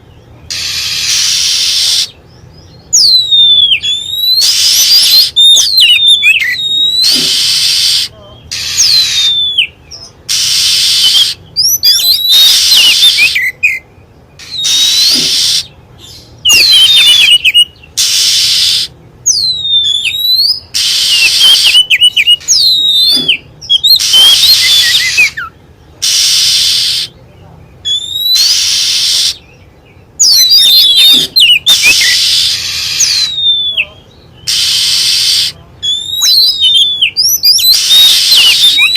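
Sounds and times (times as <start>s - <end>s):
bird whistled song: 0.0s - 38.9s.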